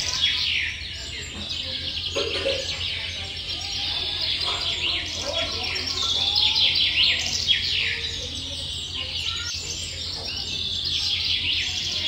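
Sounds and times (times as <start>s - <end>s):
nestling birds chirping: 0.0s - 12.0s.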